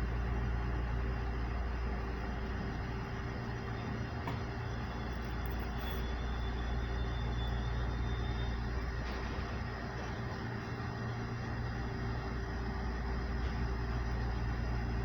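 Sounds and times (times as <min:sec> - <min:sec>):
train equipment humming: 0:00.0 - 0:15.0.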